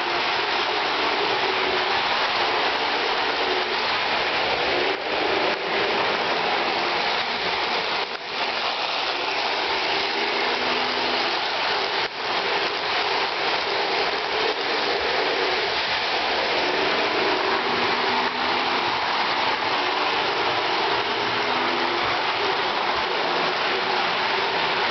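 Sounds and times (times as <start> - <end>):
model train wheels rattling on rails: 0.0 - 24.9.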